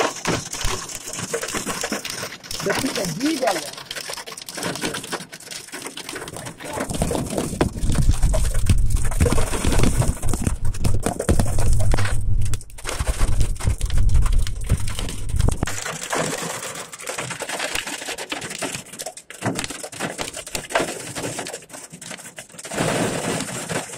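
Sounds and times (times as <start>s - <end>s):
hail and heavy rain pelting: 0.0s - 12.1s, 12.8s - 23.9s.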